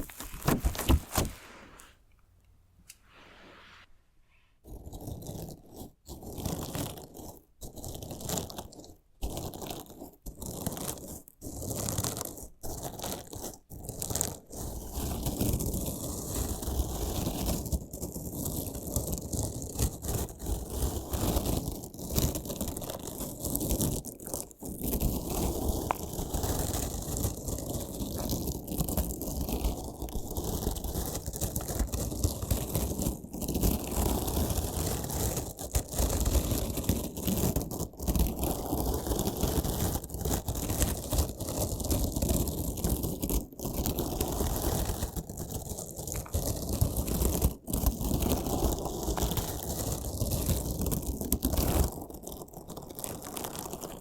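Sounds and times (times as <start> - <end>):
crunchy slime crunching: 0.0 - 1.6, 4.6 - 54.0.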